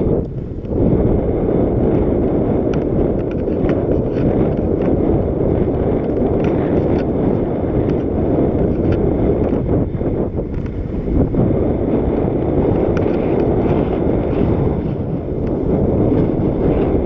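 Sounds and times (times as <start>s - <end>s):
bike tyre noise on dirt: 0.0s - 17.0s
wind rumble on microphone: 0.0s - 17.0s
bike clicks and rattles: 1.8s - 11.3s, 12.1s - 17.0s.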